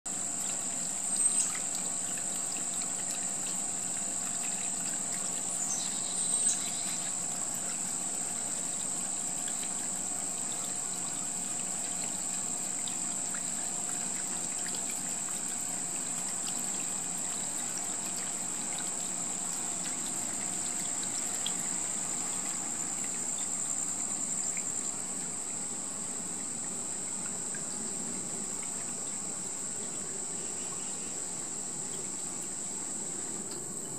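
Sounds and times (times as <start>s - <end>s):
high insect trill: 0.1s - 33.9s
water trickling over rocks: 0.1s - 33.9s.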